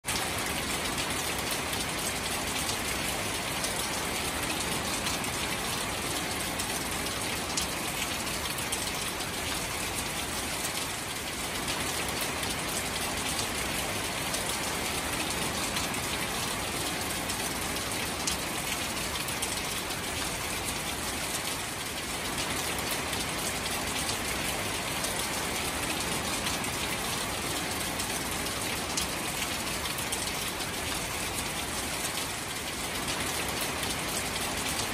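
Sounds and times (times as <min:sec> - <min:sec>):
rain falling on water: 0:00.0 - 0:34.9.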